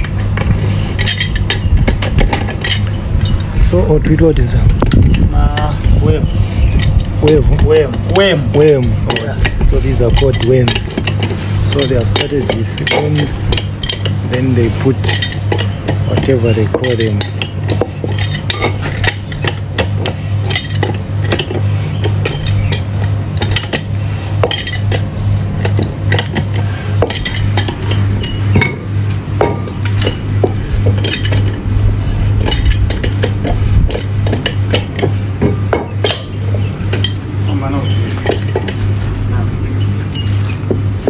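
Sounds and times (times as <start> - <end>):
metal tools clinking: 0.0 - 40.8
steady low hum: 0.0 - 41.0.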